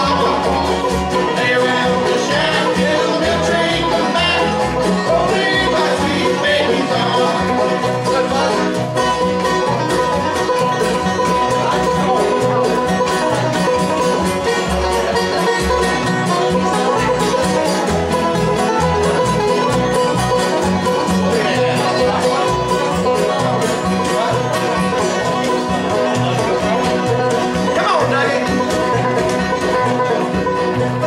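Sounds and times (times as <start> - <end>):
acoustic guitar lead: 0.0 - 31.0
bluegrass band playing: 0.0 - 31.0.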